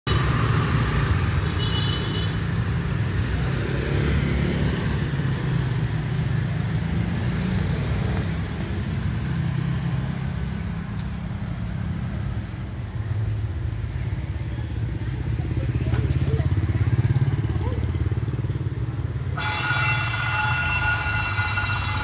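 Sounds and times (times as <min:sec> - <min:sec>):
street traffic rumble: 0:00.0 - 0:22.0
motorbike engines running: 0:00.1 - 0:22.0.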